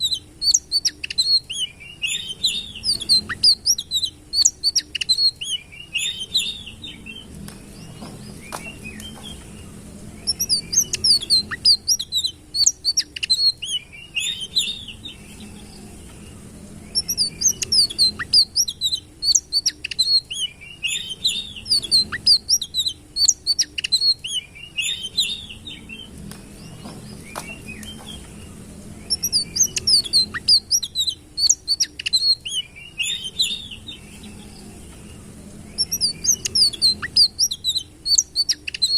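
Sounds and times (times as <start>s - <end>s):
songbird twittering song: 0.0s - 38.9s.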